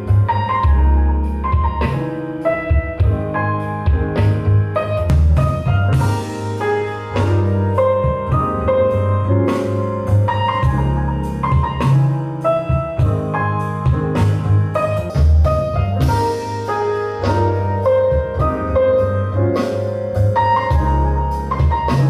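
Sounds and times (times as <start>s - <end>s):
jazz piano with bass and drums: 0.0s - 22.0s.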